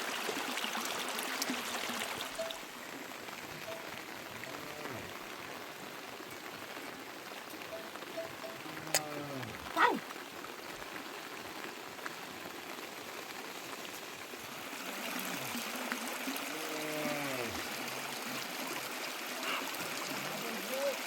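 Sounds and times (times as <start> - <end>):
running water rushing: 0.0 - 21.0.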